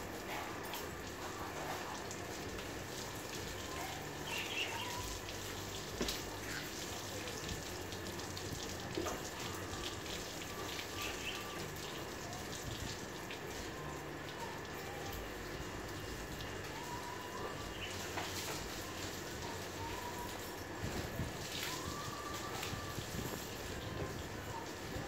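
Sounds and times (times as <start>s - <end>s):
hose water spraying on car: 0.0s - 25.0s.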